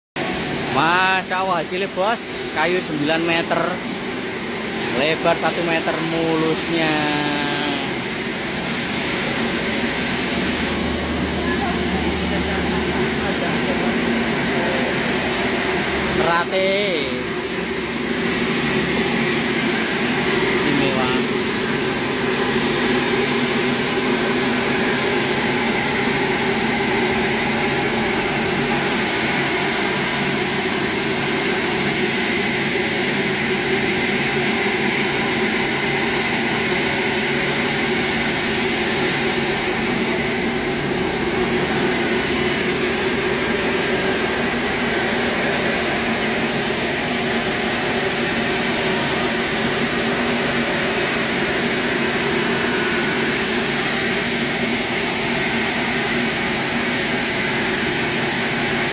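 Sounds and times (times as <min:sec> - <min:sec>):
large machine humming: 0:00.2 - 0:58.9.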